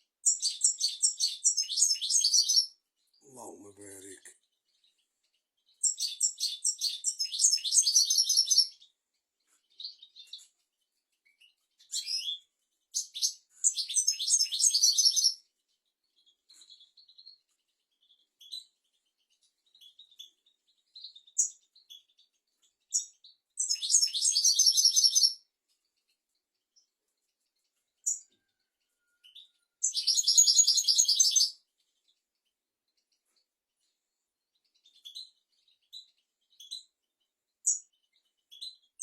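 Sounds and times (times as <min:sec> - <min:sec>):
bird twittering song: 0:00.0 - 0:39.0.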